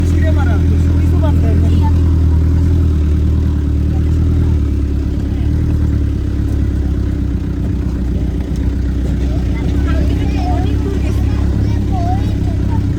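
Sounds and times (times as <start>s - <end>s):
vehicle engine droning: 0.0s - 12.9s.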